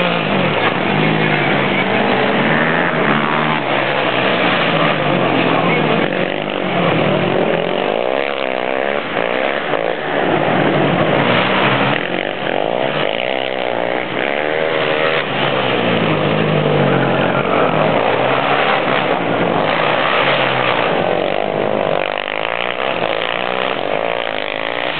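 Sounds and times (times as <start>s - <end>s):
quad bike engines revving: 0.0s - 24.9s.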